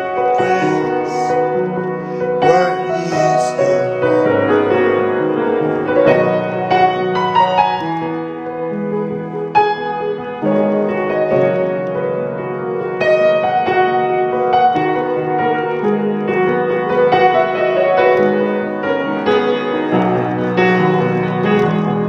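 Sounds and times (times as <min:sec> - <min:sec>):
piano playing slow chords: 0:00.0 - 0:22.0.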